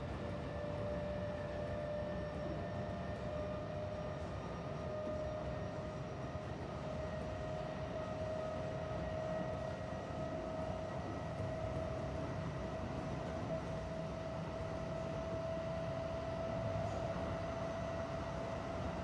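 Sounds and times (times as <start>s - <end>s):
electric train motor whine: 0.0s - 19.0s
wheels rumbling on rail: 0.0s - 19.0s.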